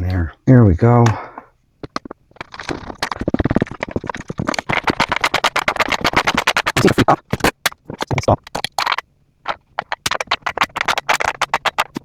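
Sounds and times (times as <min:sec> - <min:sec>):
rapid metallic clicking and scraping: 0:01.8 - 0:12.0.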